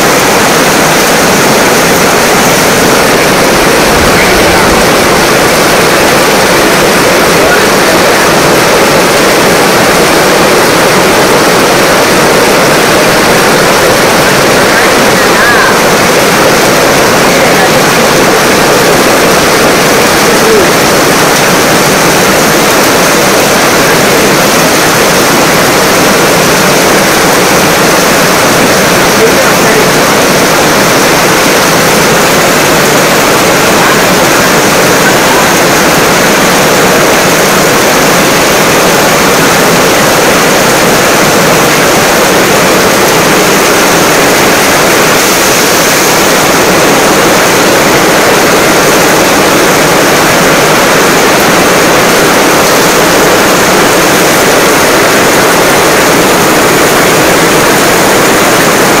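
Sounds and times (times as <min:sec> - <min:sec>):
heavy rain on stone: 0:00.0 - 0:59.0
water splashing from roof edge: 0:00.0 - 0:59.0.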